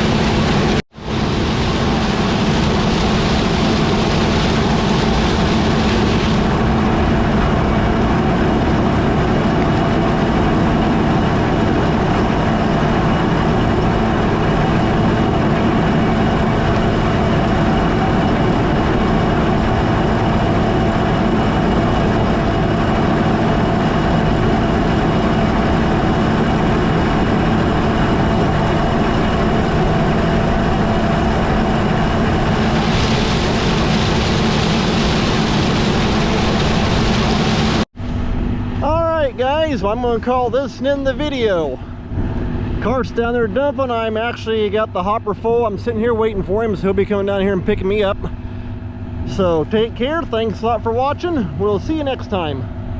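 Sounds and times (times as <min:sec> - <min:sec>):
combine harvester droning: 0:00.0 - 0:52.9.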